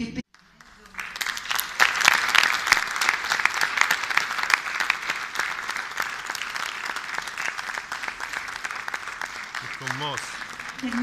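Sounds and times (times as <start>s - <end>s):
audience applauding: 0.3s - 11.0s.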